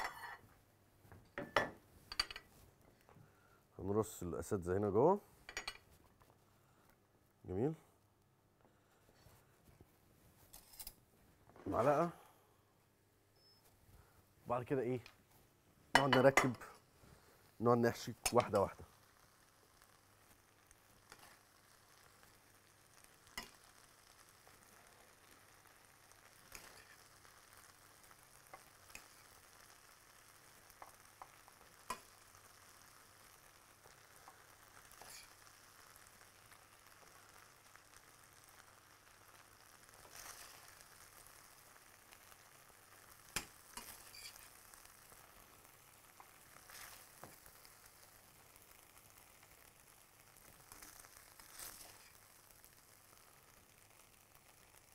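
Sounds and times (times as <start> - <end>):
food sizzling in frying pan: 0.0 - 4.7, 5.4 - 6.1, 10.4 - 11.0, 11.6 - 12.4, 13.4 - 54.9.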